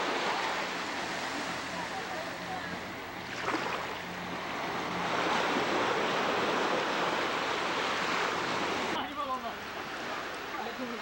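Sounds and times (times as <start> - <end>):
sea surf rushing: 0.0 - 11.0.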